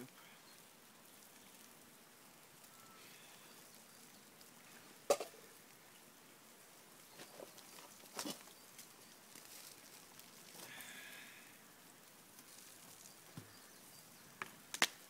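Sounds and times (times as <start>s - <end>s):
campfire crack: 0.0s - 15.0s
campfire hissing: 0.0s - 15.0s.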